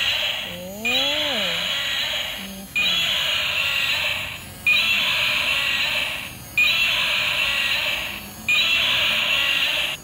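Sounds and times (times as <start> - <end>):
toy dinosaur roar from speaker: 0.0 - 10.0.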